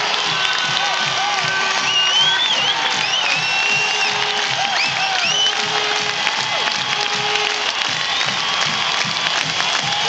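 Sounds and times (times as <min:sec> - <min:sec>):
marching band drums beating: 0:00.0 - 0:10.0
stadium crowd cheering: 0:00.0 - 0:10.0.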